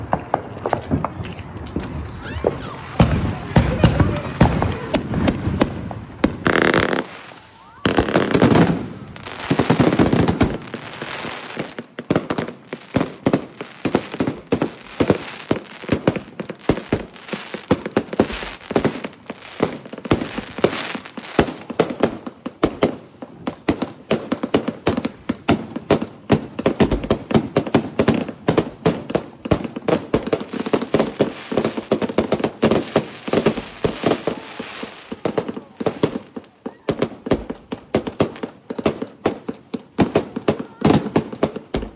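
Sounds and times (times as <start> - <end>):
fireworks banging rapidly: 0.0 - 41.9.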